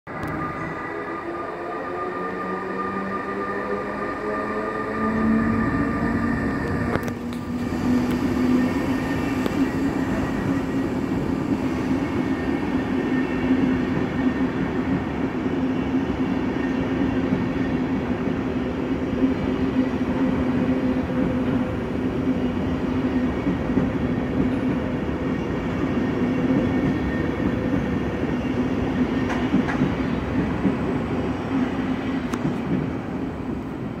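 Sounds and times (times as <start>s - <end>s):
train wheels rumbling on rail: 0.1s - 34.0s.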